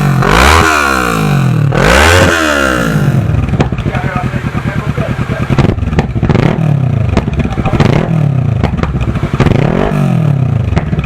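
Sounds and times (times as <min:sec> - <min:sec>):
exhaust cracks: 0:00.0 - 0:11.0
motorcycle engine revving: 0:00.0 - 0:11.0.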